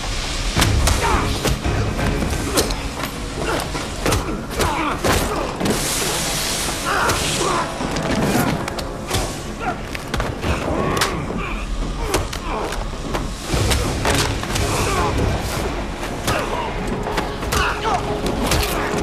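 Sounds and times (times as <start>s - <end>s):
hissing rush: 0.0s - 19.0s
tense film score: 0.0s - 19.0s.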